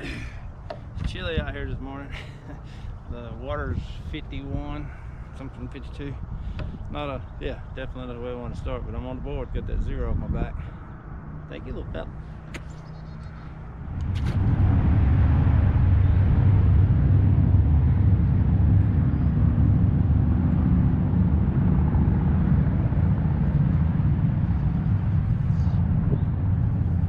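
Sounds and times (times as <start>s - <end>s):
wind blowing across microphone: 0.0s - 27.0s.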